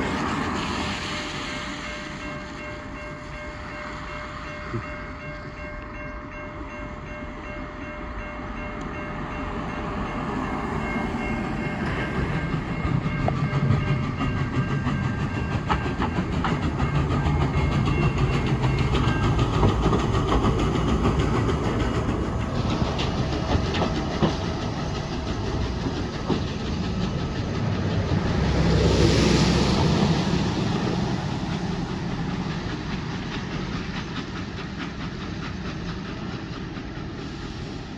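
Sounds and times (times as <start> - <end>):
train wheels clicking on track: 0.0 - 6.4, 8.2 - 37.9
steam train rumbling: 0.0 - 37.9.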